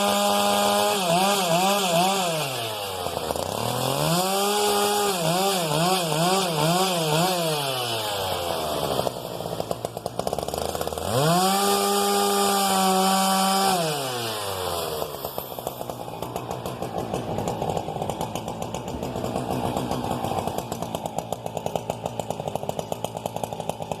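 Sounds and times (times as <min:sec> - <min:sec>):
chainsaw engine revving: 0:00.0 - 0:24.0.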